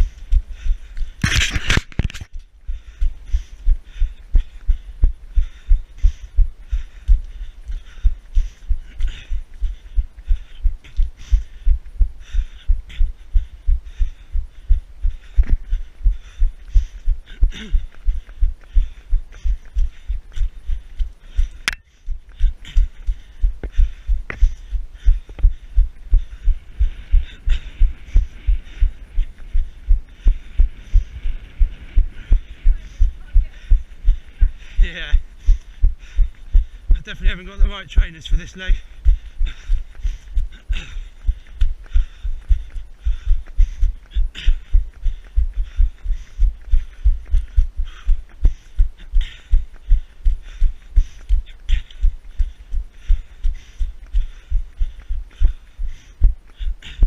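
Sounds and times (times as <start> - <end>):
running footsteps thudding: 0.0 - 57.0.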